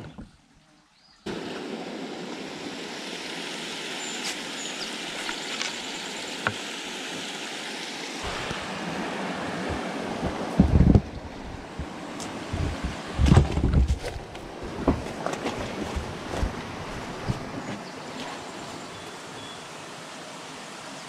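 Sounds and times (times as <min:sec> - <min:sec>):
creek water rushing through dam: 0:01.3 - 0:21.0.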